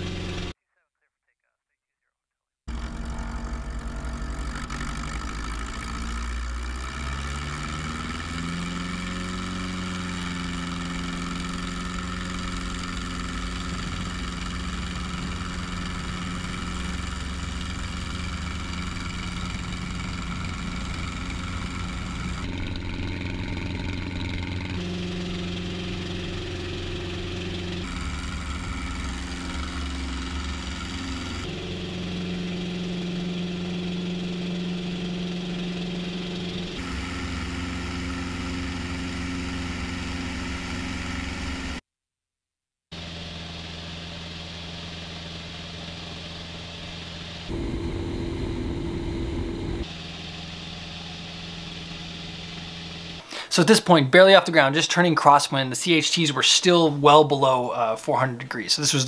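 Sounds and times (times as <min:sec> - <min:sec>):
light aircraft engine and propeller: 0:00.0 - 0:00.5, 0:02.7 - 0:41.8, 0:43.0 - 0:53.4.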